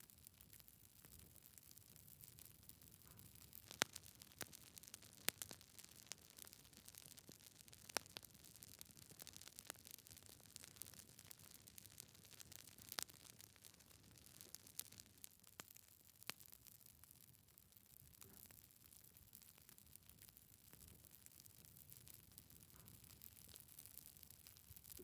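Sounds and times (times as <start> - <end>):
logs crackling in a fireplace: 0.0 - 25.0
sharp pops of burning wood: 0.4 - 25.0.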